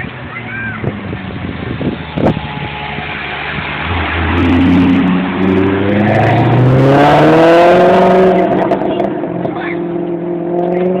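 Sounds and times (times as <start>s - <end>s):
sports car engine accelerating: 0.8s - 11.0s.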